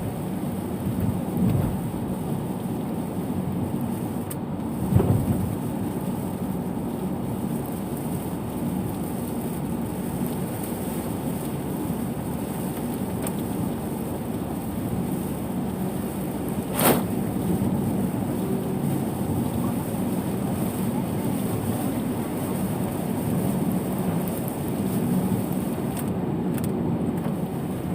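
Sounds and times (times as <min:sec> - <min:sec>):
heavy rain: 0:00.0 - 0:27.9
traffic on wet road: 0:00.0 - 0:27.9.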